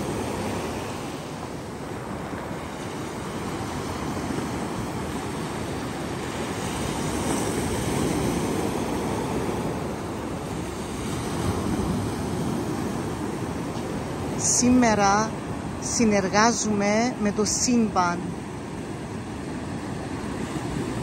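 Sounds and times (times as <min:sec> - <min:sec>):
sea surf washing ashore: 0:00.0 - 0:21.0.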